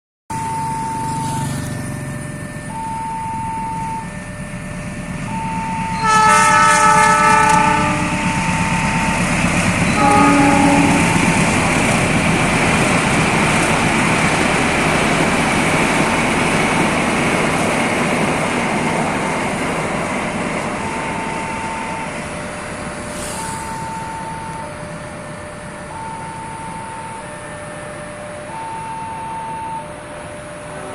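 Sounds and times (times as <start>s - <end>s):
two-tone crossing warning signal: 0.3s - 30.9s
train passing rumble: 0.7s - 30.9s.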